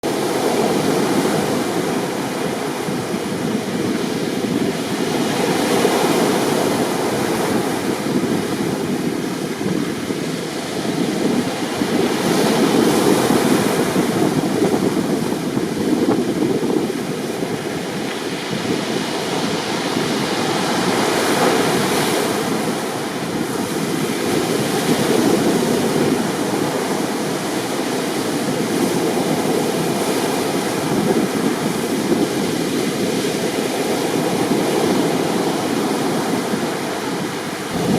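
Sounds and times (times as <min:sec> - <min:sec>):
waves breaking: 0:00.1 - 0:37.9.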